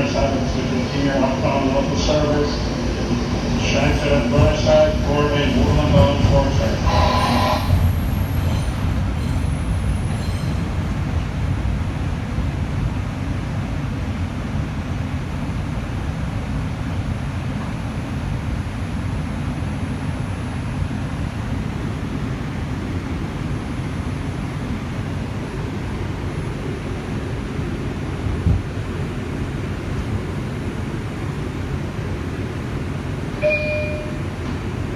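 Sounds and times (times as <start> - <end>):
subway wheels rumbling on rail: 0.0 - 34.9.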